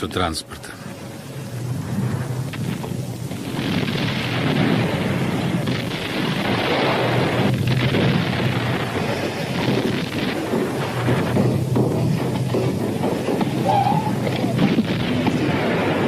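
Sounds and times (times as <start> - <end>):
low rumbling roar: 1.0 - 16.0.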